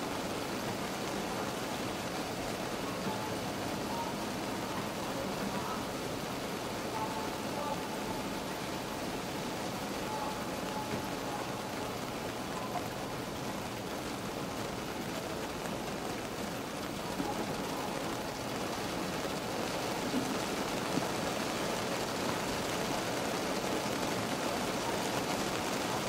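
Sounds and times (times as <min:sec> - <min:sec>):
rain patter on a car: 0:00.0 - 0:26.0.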